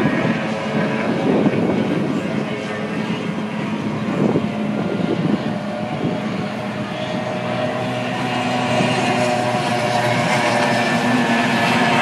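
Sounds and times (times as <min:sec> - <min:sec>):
outboard boat engines droning: 0:00.0 - 0:12.0.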